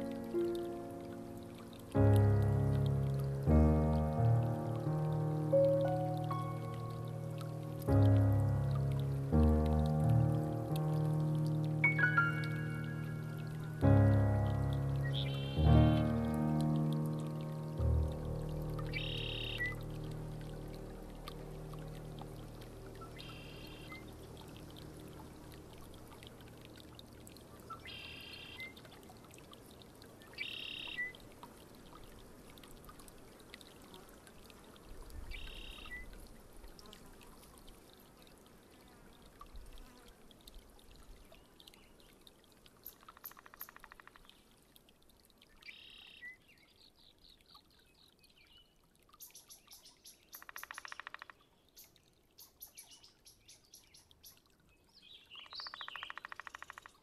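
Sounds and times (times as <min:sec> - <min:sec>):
soft steady hiss: 0:00.0 - 0:57.0.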